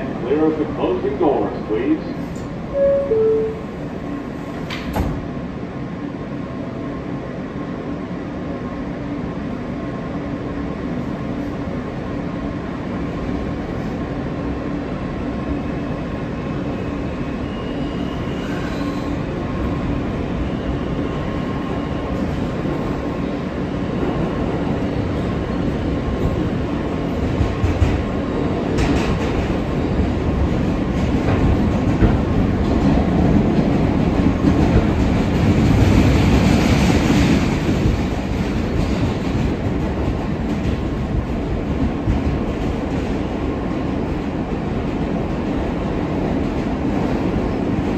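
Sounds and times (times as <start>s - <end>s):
subway train rumble: 0.0s - 47.9s.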